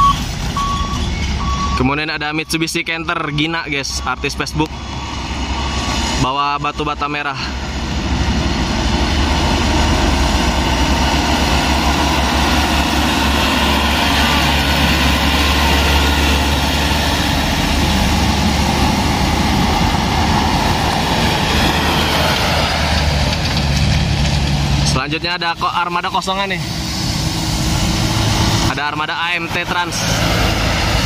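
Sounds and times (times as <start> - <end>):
diesel truck engine passing: 0.0 - 31.0.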